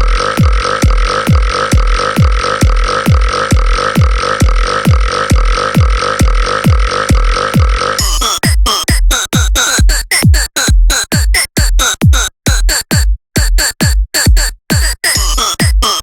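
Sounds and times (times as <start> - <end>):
drum machine kick: 0.0 - 16.0
electronic dance music: 0.0 - 16.0
stuttering synth sounds: 0.0 - 16.0.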